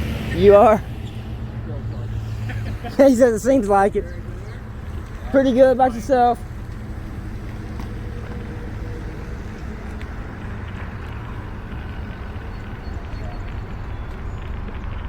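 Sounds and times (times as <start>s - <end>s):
outdoor traffic noise: 0.0s - 15.0s
vehicle engine idling: 0.0s - 15.0s.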